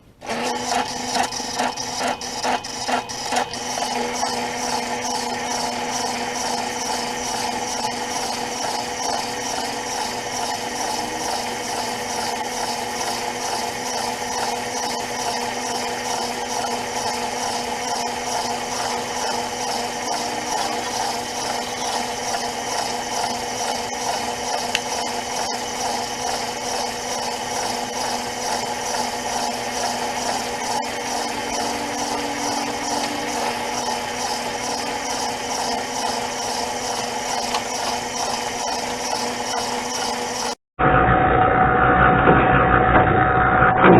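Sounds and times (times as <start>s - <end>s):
concrete mixer drum churning: 0.0s - 40.6s
motor hum: 0.0s - 43.9s.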